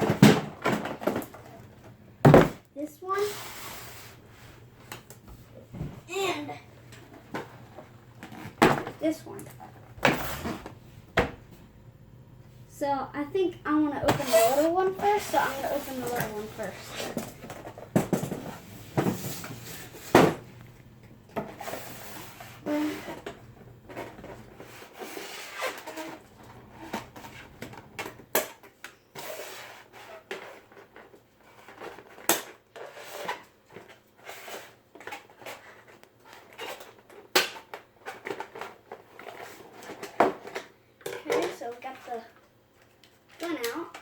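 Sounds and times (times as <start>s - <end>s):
cardboard and plastic rustling: 0.0s - 11.4s, 13.8s - 20.6s, 21.4s - 44.0s.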